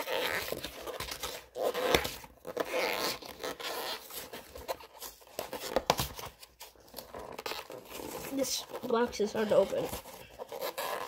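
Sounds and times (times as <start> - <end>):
cardboard tearing and scraping: 0.0 - 11.0.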